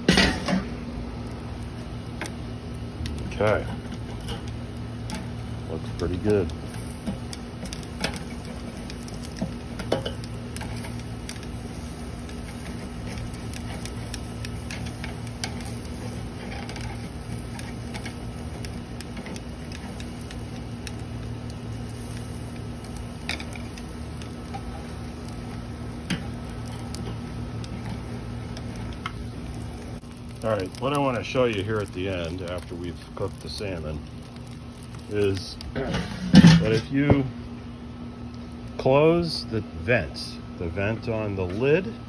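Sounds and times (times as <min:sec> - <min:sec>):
air-conditioner condenser humming: 0:00.0 - 0:42.0.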